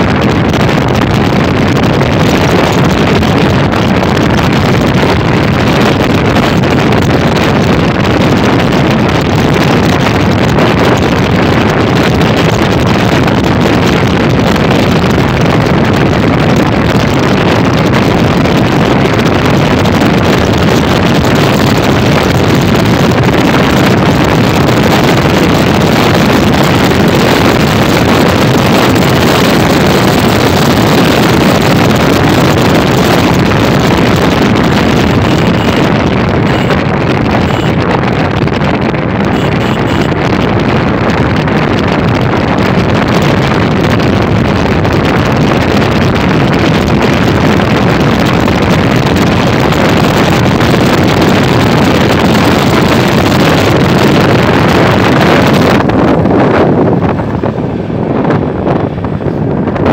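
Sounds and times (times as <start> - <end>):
motorcycle engine running: 0.0 - 59.9
road noise: 0.0 - 59.9
wind rush on microphone: 0.0 - 59.9.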